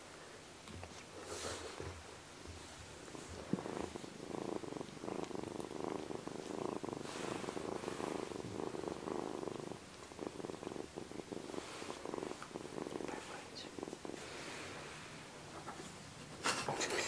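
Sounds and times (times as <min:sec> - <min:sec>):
kitten purring loudly: 0:01.2 - 0:17.0.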